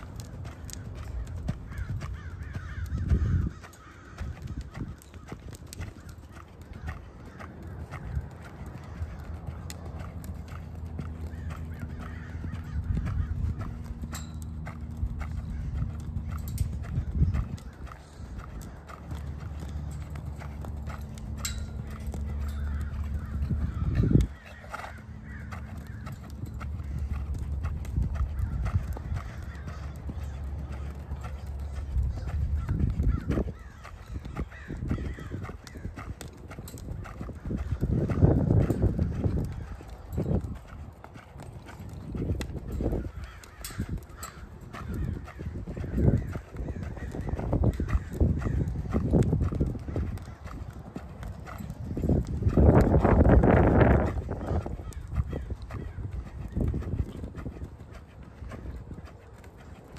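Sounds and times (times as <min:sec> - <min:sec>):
hoofbeats in sand: 0:00.0 - 0:59.9.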